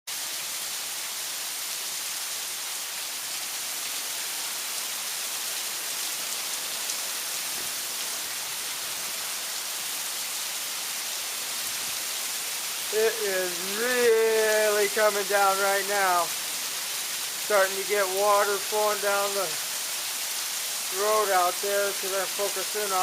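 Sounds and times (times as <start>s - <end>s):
heavy rain: 0.1s - 23.0s.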